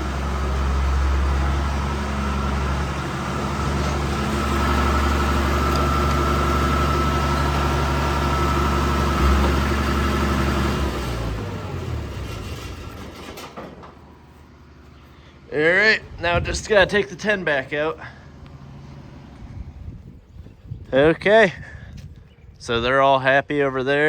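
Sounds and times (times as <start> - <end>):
tractor engine running at low revs: 0.0 - 21.0.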